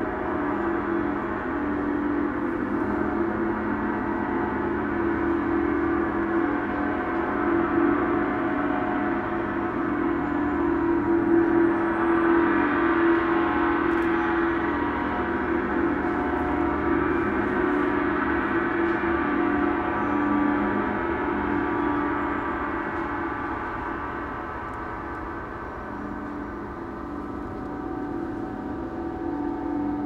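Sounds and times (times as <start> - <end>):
large gong shimmering: 0.0 - 30.0.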